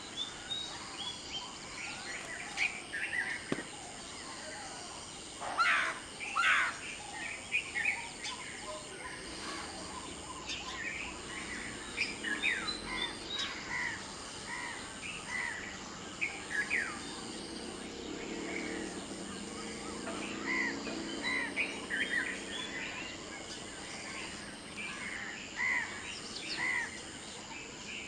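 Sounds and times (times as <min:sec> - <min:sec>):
birds chirping and singing: 0:00.1 - 0:28.0.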